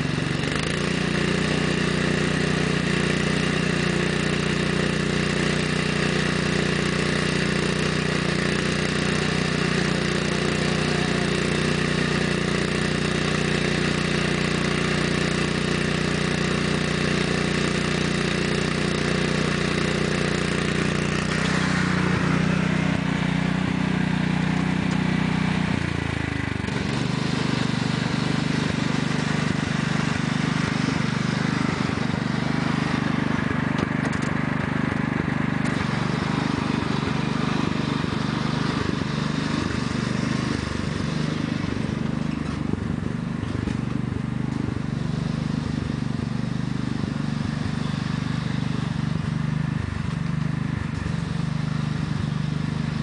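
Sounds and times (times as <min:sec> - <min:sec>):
lawn tractor engine running: 0:00.0 - 0:53.0.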